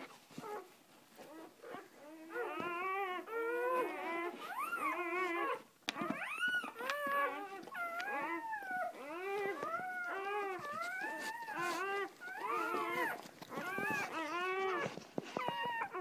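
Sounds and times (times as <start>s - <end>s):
puppies squealing: 1.4s - 16.0s.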